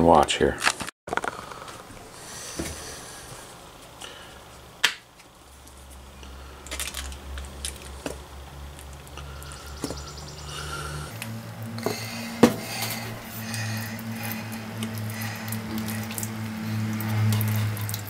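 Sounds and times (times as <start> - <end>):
low steady hum: 1.3 - 18.0.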